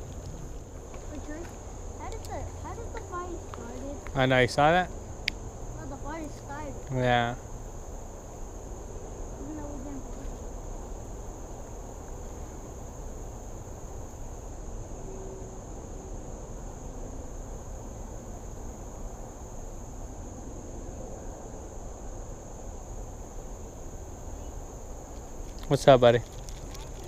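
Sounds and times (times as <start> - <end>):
insects droning: 0.0 - 27.0
low background rumble: 0.0 - 27.0.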